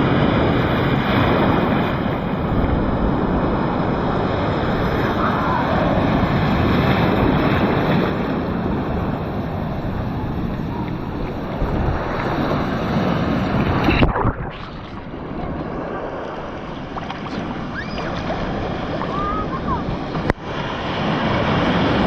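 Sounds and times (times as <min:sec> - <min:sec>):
ocean surf washing onto beach: 0:00.0 - 0:22.0
wind buffeting microphone: 0:00.0 - 0:22.0.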